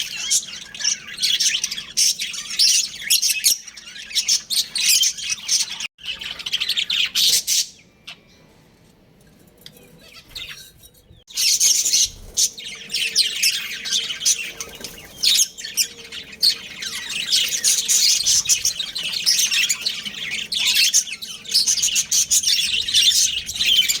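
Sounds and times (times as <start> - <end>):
budgerigars chirping: 0.0 - 8.4, 9.9 - 24.0.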